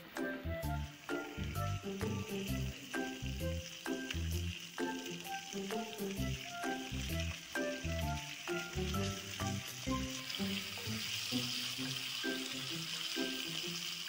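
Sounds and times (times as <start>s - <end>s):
background music with beat: 0.0s - 14.0s
fish sizzling in oil: 0.0s - 14.0s.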